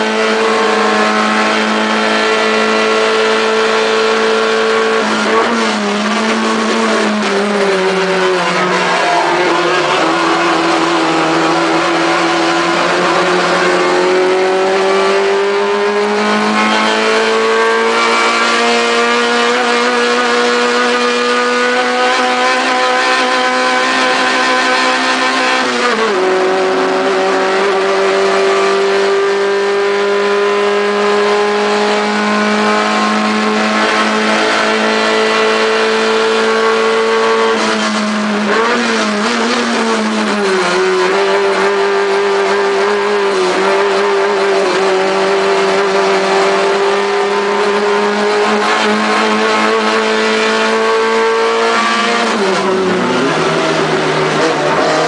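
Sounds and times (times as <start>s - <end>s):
race car engine at full throttle: 0.0s - 55.0s.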